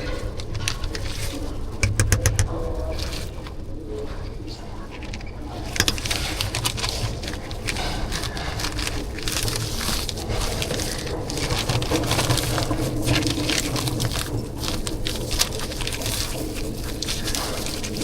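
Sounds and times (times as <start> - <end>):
crunching handling noises: 0.0 - 18.0.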